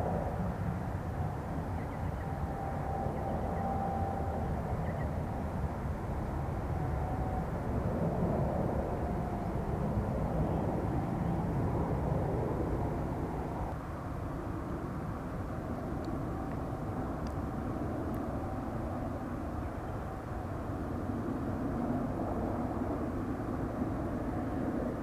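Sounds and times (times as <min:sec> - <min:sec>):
airplane engines rumbling: 0:00.0 - 0:25.0.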